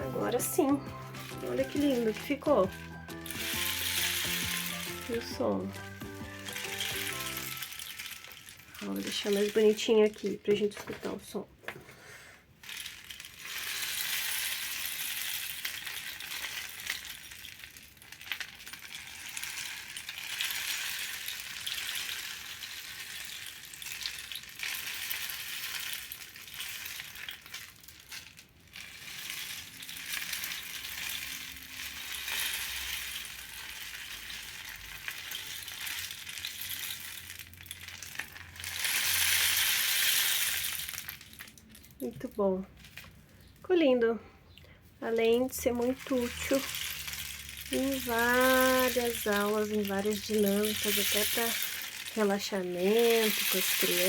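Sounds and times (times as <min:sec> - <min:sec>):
rain stick patter: 0:00.0 - 0:11.5, 0:12.5 - 0:43.8, 0:45.0 - 0:54.0.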